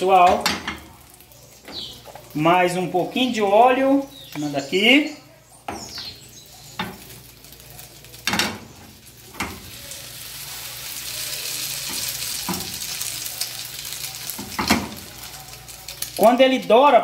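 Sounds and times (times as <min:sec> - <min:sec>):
oil sizzling in frying pans: 0:00.0 - 0:17.0.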